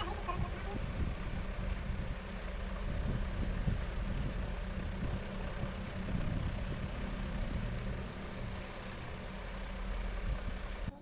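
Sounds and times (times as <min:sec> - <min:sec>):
low hum and rumble with hiss: 0:00.0 - 0:11.0.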